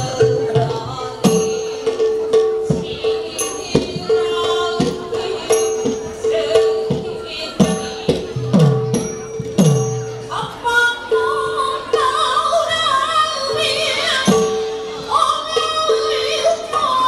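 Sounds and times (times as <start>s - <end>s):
small cymbals ringing: 0.0s - 17.0s.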